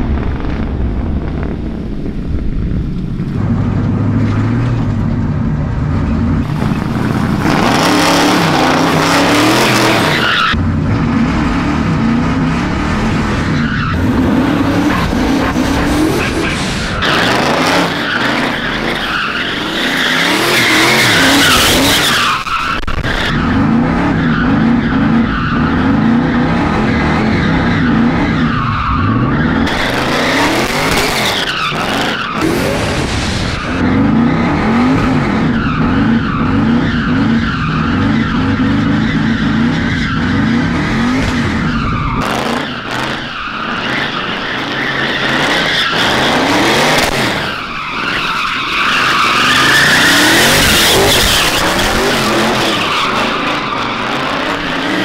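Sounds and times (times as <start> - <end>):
tyres skidding and squealing: 3.0 - 55.0
car engine revving hard: 6.2 - 55.0.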